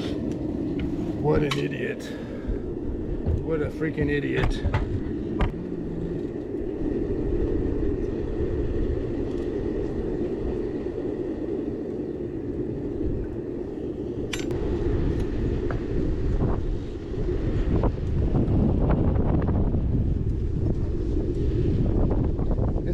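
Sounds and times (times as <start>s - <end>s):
steady roaring noise: 0.0s - 22.9s
wind buffeting microphone: 0.0s - 22.9s.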